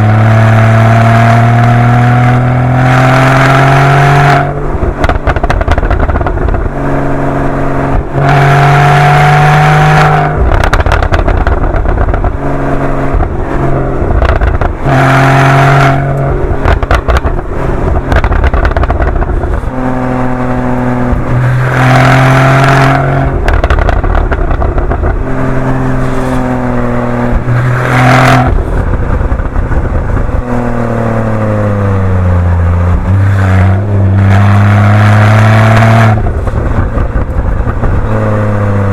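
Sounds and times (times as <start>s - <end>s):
car engine revving: 0.0s - 38.9s
exhaust pops and crackles: 0.0s - 38.9s.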